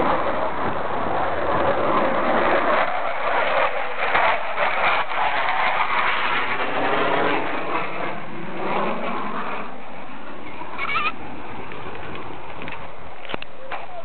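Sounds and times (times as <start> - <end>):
jet engines roaring past: 0.0 - 14.0.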